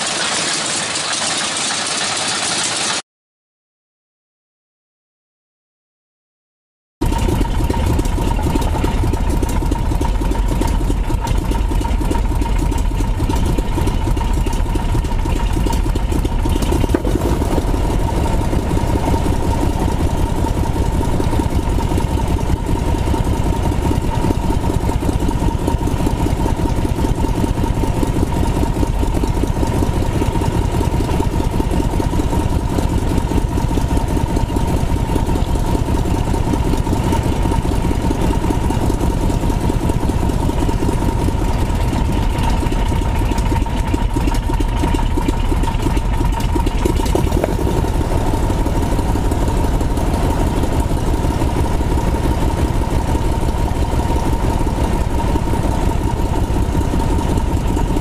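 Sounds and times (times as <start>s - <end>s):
aircraft piston engine running: 0.0s - 3.0s, 7.0s - 58.0s.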